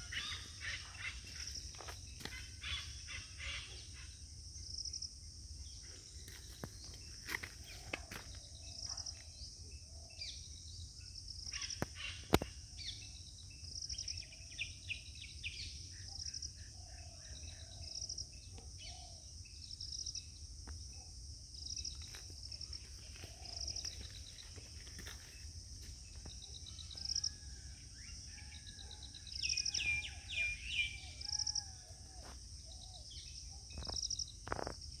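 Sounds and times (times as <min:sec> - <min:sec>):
birds calling and chirping: 0:00.0 - 0:04.7, 0:05.6 - 0:35.0.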